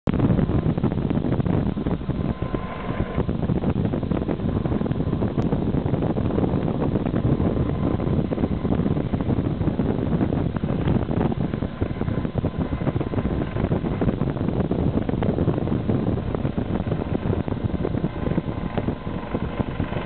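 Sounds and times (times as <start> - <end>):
low rumble of ship: 0.1 - 20.0
wind buffeting microphone: 0.1 - 20.0.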